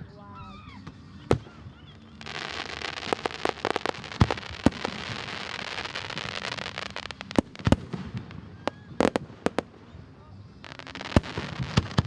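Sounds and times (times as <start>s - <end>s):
firework bangs: 1.3s - 10.0s, 10.6s - 12.0s
fireworks crackling hiss: 1.3s - 12.0s.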